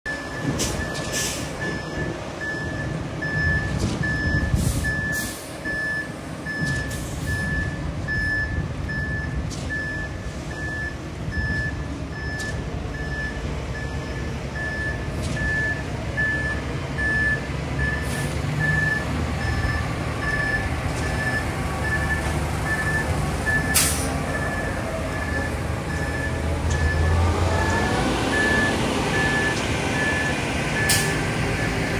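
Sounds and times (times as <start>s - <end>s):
reverse alarm beeping: 0.1s - 27.7s, 28.3s - 31.9s
diesel engine running: 0.1s - 31.9s.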